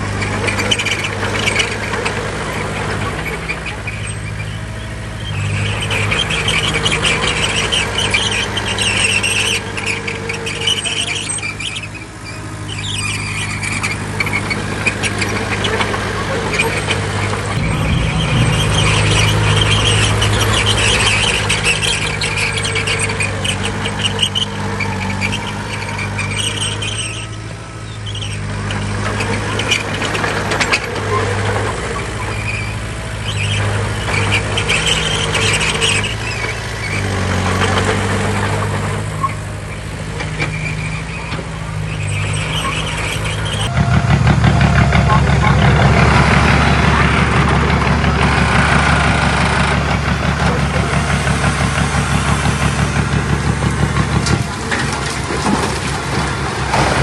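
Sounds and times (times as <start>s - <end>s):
bulldozer diesel engine: 0.0s - 57.0s
crawler tracks squealing and clanking: 0.0s - 57.0s.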